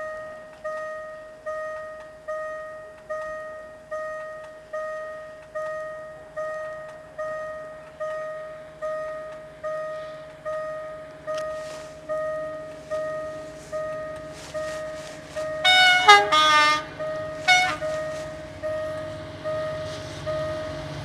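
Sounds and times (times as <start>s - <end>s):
level crossing warning bell ringing: 0.0s - 21.0s
low hum of train: 0.0s - 21.0s.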